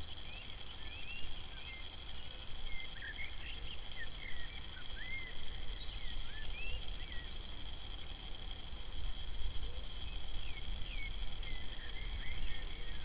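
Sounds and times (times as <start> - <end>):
birds whistling calls: 0.2 - 7.4, 9.7 - 13.0.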